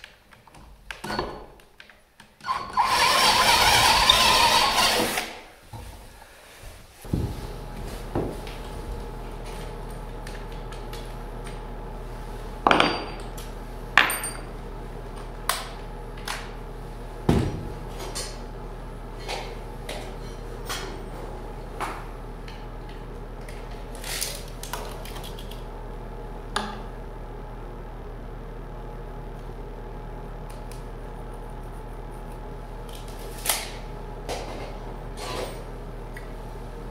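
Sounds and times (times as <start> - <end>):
steady low hum: 5.8 - 36.9.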